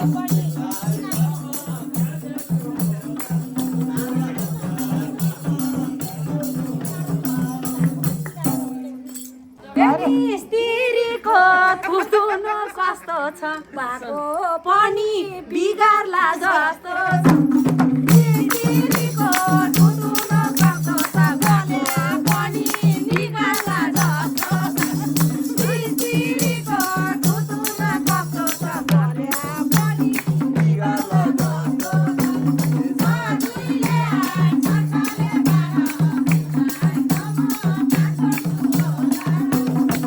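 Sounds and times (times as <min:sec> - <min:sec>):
rhythmic percussion: 0:00.0 - 0:12.9, 0:17.0 - 0:40.0
folk music with singing: 0:00.0 - 0:40.0.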